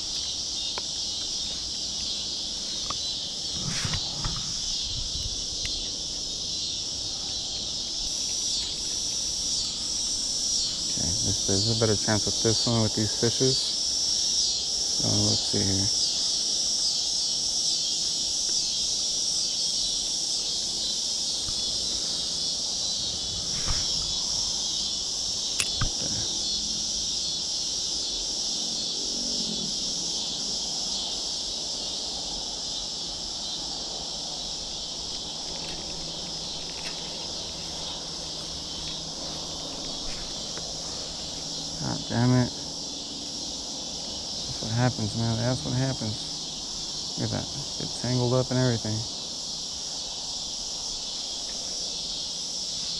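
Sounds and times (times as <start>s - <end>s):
insects buzzing: 0.0s - 52.9s.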